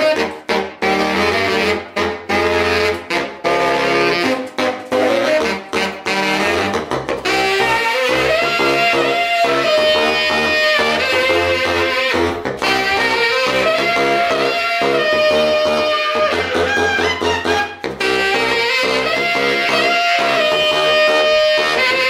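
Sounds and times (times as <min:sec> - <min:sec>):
saxophones playing a riff: 0:00.0 - 0:22.0.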